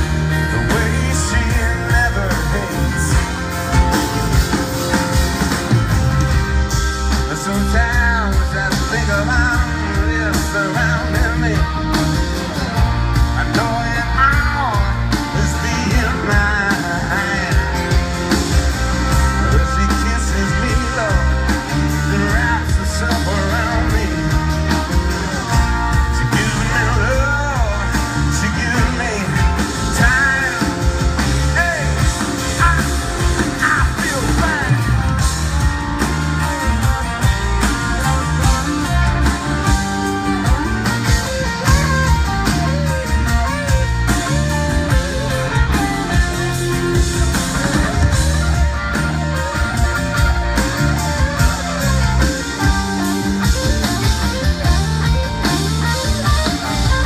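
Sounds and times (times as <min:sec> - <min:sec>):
bending lead melody: 0:00.0 - 0:57.0
live rock band playing: 0:00.0 - 0:57.0.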